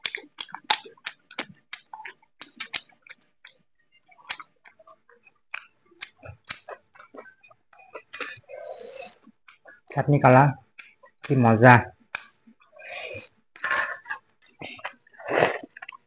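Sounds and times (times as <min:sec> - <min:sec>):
lip smacks and mouth clicks: 0:00.0 - 0:08.4, 0:09.1 - 0:09.9, 0:10.7 - 0:11.4, 0:12.0 - 0:12.8, 0:13.6 - 0:16.0
person chewing food: 0:00.0 - 0:10.0, 0:10.6 - 0:11.4, 0:12.0 - 0:16.0.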